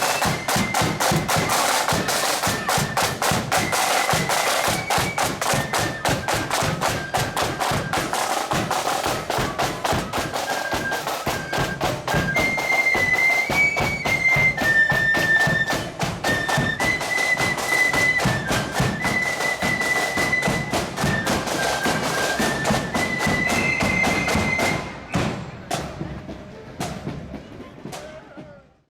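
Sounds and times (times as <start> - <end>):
flutes playing melody: 0.0 - 26.1
snare and bass drum beats: 0.0 - 28.8.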